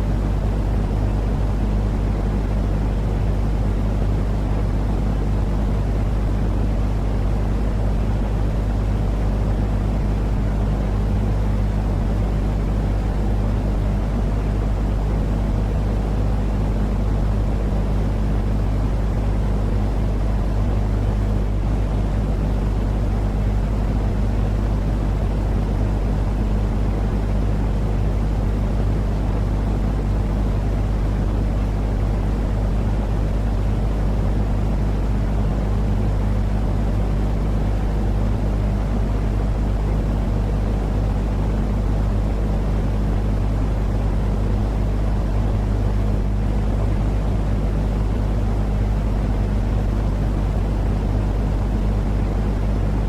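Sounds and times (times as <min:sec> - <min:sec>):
deep rumbling noise with low hum: 0:00.0 - 0:53.0.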